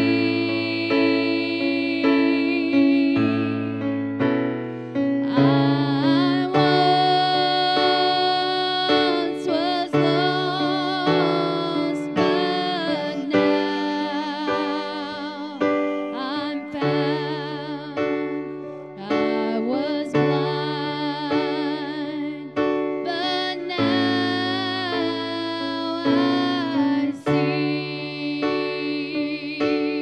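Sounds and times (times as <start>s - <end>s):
person singing: 0.0s - 3.9s, 5.2s - 30.0s.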